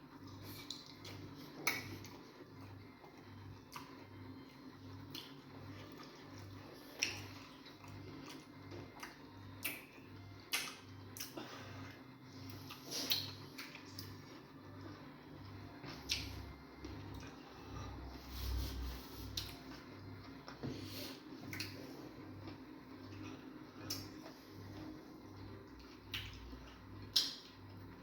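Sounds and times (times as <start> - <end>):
faint pulsing low hum: 0.0 - 28.0
chewing with wet smacks: 0.1 - 15.0, 15.8 - 17.4, 19.3 - 28.0.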